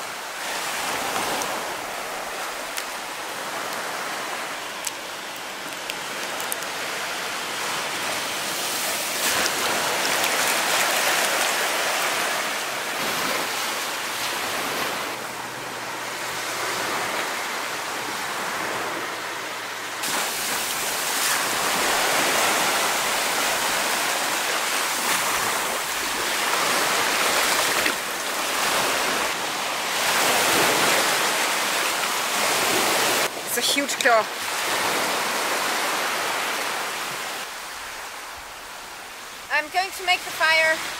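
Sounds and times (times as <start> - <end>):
surf washing onto beach: 0.0 - 40.9.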